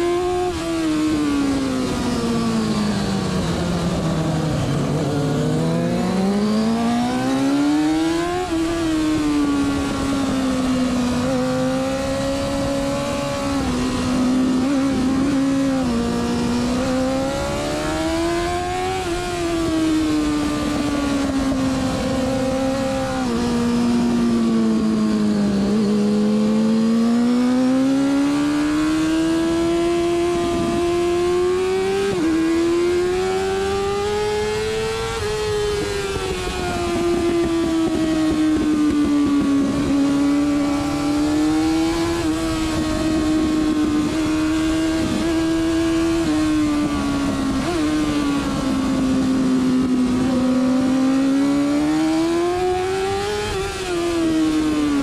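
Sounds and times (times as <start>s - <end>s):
racing motorcycle engine: 0.0s - 55.0s.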